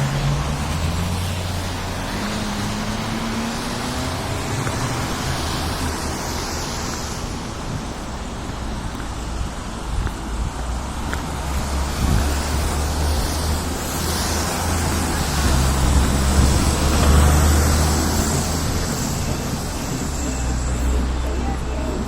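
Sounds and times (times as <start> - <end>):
road traffic rumble: 0.0 - 22.0
wind buffeting microphone: 0.0 - 22.0.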